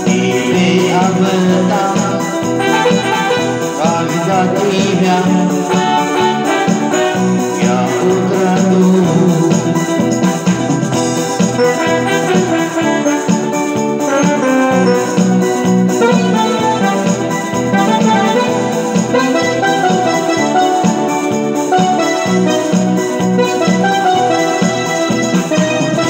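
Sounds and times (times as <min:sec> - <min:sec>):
electronic keyboard music: 0:00.0 - 0:26.0.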